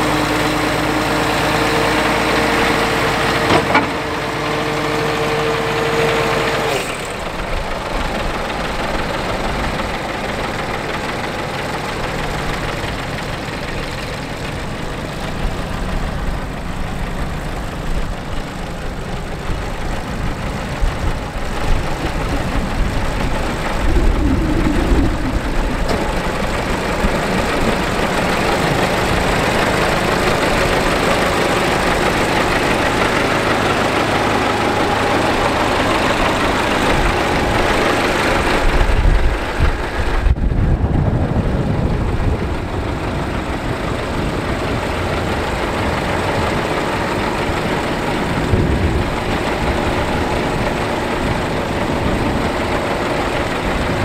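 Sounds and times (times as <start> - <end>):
truck diesel engine idling: 0.0 - 54.0.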